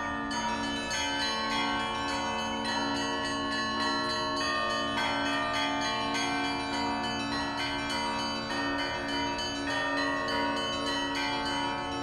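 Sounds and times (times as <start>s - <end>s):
high church bells ringing rapidly: 0.0s - 12.0s
low bells humming: 0.0s - 12.0s.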